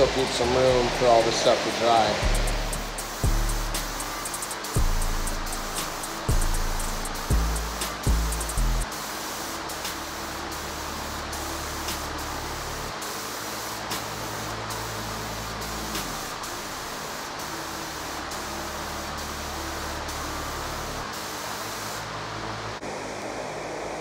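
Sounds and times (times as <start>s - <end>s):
spray gun hissing: 0.0s - 23.9s.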